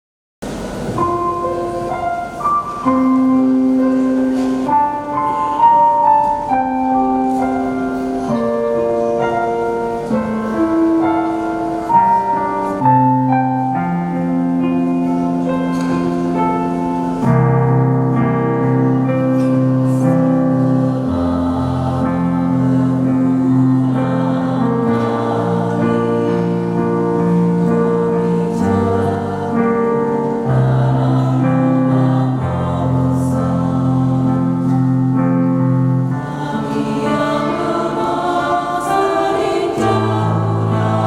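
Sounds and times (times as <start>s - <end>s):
electronic keyboard playing hymn: 0.4s - 41.0s.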